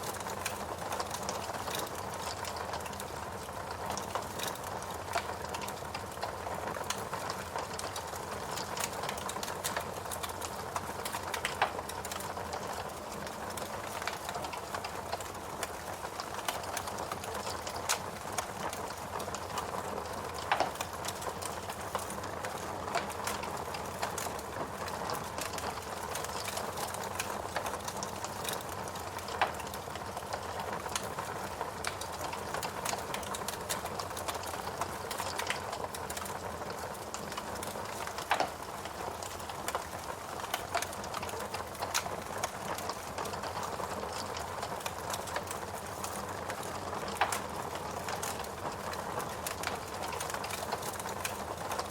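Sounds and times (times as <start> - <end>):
burning logs popping: 0.0 - 51.9
fire crackling: 0.0 - 51.9.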